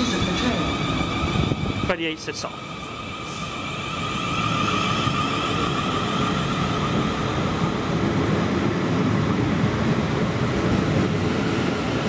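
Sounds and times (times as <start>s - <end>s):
electric train whine: 0.0s - 12.0s
train wheels rumbling on rails: 0.0s - 12.0s.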